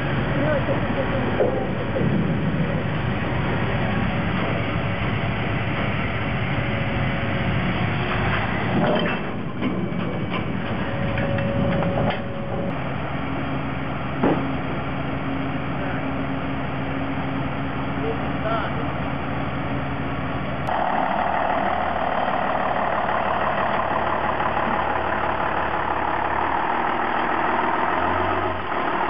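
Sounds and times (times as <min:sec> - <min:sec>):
large engine running: 0:00.0 - 0:29.0.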